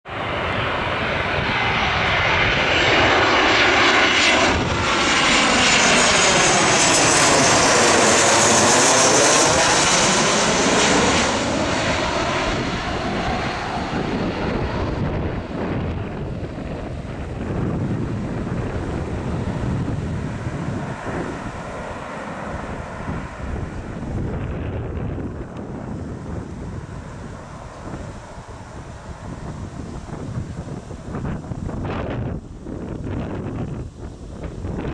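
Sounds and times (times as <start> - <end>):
jet airliner passing overhead: 0.1 - 34.9.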